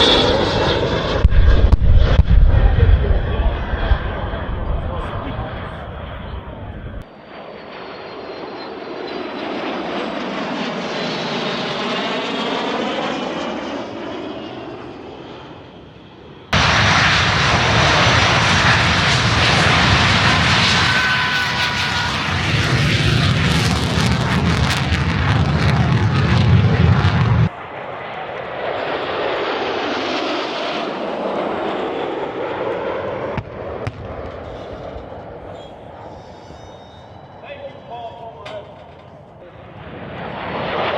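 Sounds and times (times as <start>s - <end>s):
jet aircraft flying past: 0.0s - 40.9s.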